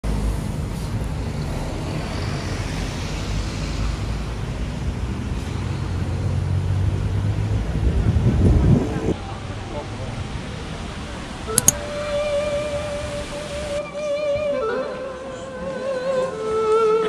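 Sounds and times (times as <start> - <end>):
passing vehicles rushing: 0.0 - 14.6.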